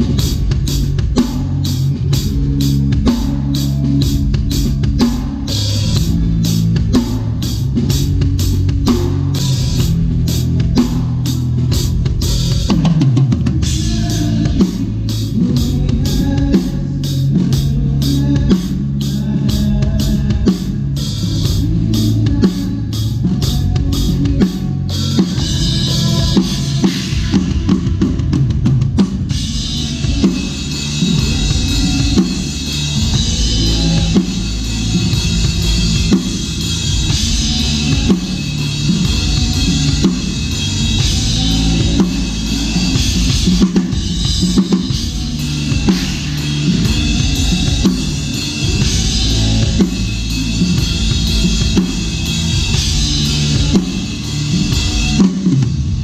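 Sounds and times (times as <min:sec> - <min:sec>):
rock band backing music: 0:00.0 - 0:56.0.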